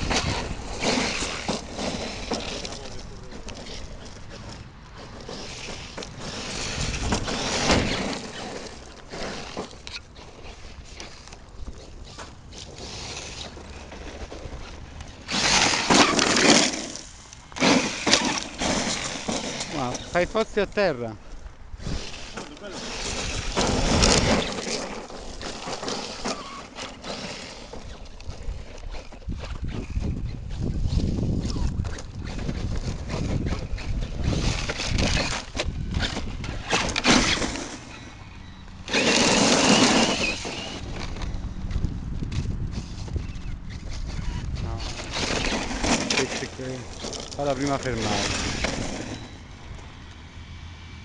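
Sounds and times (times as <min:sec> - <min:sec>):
clicks and scrapes: 0:00.0 - 0:20.9, 0:21.8 - 0:49.8
electric rc truck motor: 0:00.0 - 0:20.9, 0:21.7 - 0:51.0.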